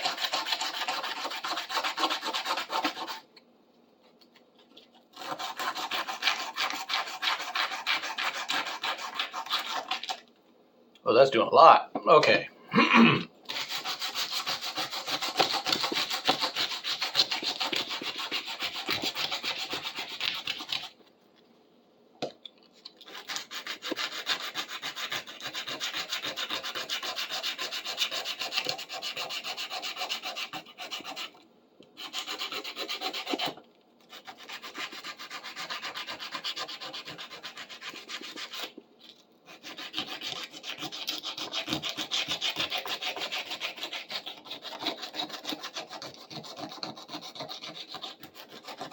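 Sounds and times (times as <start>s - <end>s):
sandpaper scrubbing rusty metal: 0.0s - 3.2s, 5.2s - 10.0s, 13.5s - 20.8s, 23.1s - 31.3s, 32.0s - 38.7s, 39.5s - 48.9s.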